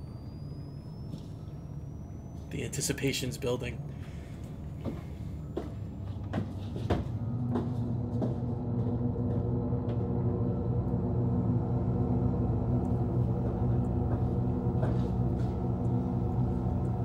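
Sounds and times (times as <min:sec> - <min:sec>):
low droning tone: 0:00.0 - 0:17.0.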